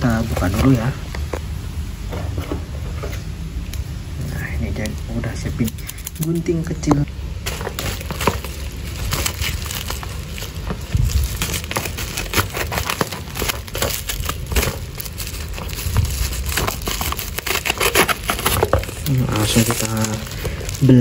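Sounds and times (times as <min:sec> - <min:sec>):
bubble wrap crinkling: 0:00.0 - 0:03.7, 0:04.4 - 0:21.0.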